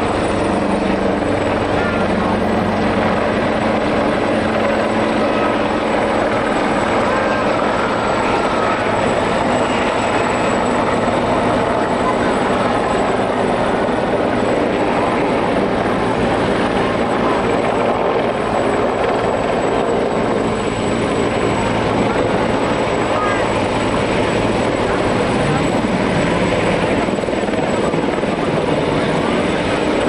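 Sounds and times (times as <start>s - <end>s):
helicopters flying low: 0.0s - 30.0s.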